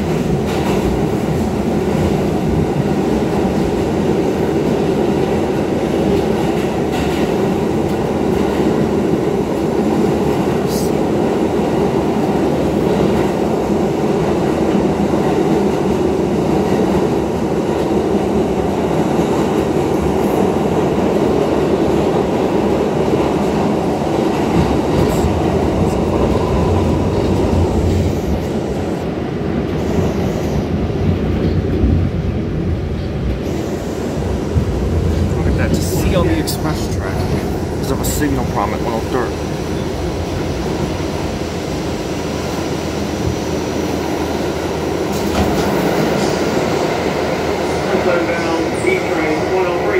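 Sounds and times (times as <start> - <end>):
subway car wheels rumbling on track: 0.0 - 49.9.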